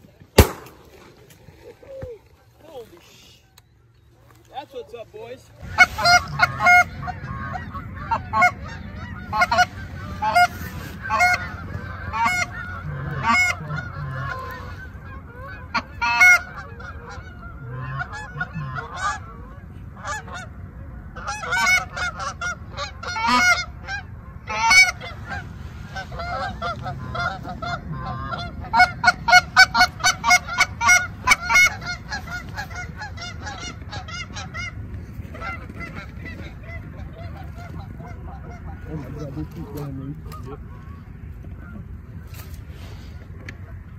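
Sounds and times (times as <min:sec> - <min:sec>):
low steady rumble: 0:00.0 - 0:43.9
goose honking: 0:05.5 - 0:43.8.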